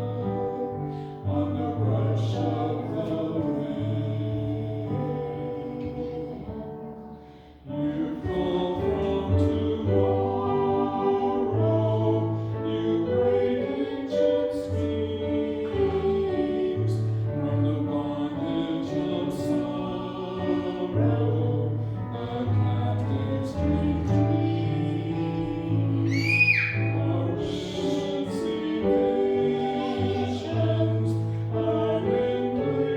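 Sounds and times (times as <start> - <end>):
voices singing church music: 0.0 - 32.9.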